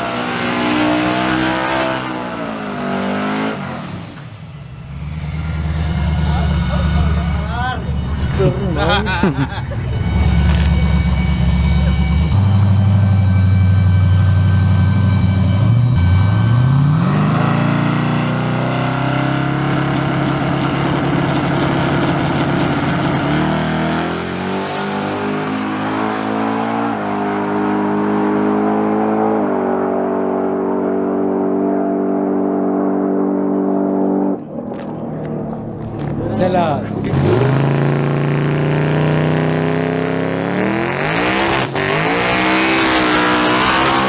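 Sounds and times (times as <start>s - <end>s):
race truck accelerating: 0.0s - 44.0s.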